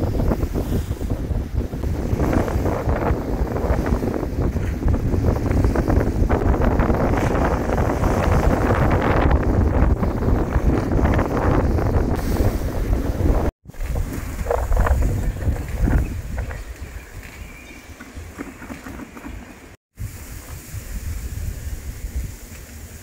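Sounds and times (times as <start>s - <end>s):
waves crashing against seawall: 0.0s - 23.0s
wind buffeting microphone: 0.0s - 23.0s.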